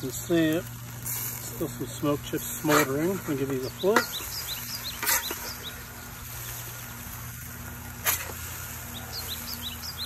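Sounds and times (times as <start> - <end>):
metal spatula scraping grill grate: 0.0 - 10.0
steady low hum: 0.0 - 10.0.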